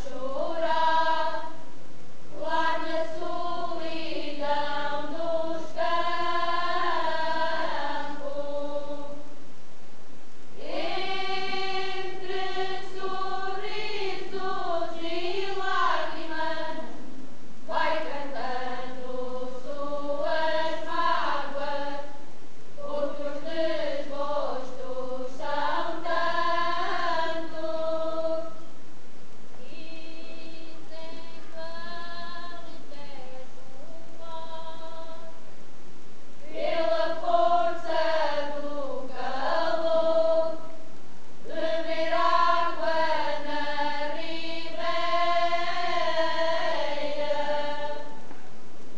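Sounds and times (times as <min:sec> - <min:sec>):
women and girls singing: 0:00.0 - 0:09.4, 0:10.5 - 0:28.8, 0:29.5 - 0:35.5, 0:36.4 - 0:48.6.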